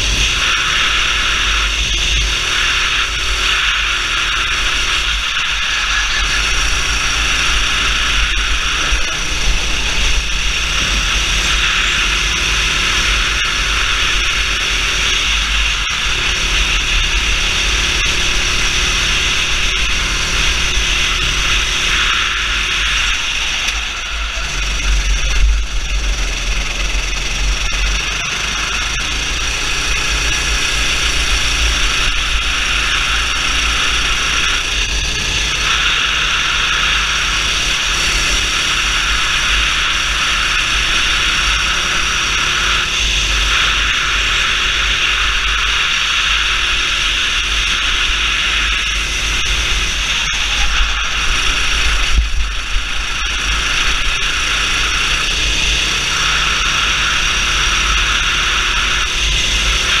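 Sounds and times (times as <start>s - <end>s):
kart engine: 0.0s - 60.0s.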